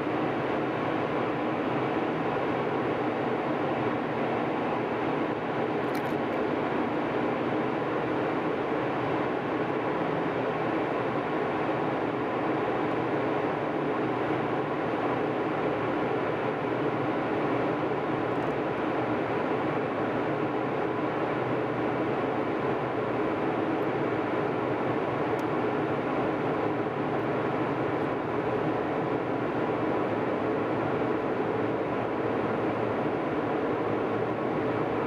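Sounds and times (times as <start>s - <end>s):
faint steady hum: 0.0s - 35.0s
jet engines and airflow rushing: 0.0s - 35.0s.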